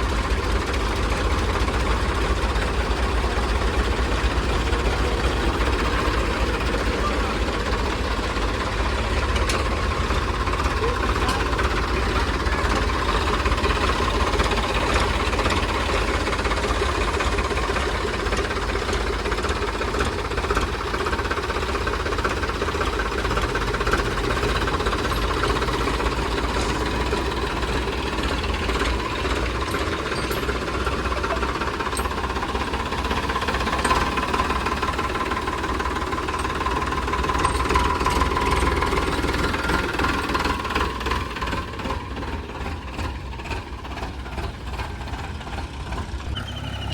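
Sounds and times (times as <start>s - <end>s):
diesel engines running under load: 0.0s - 46.9s.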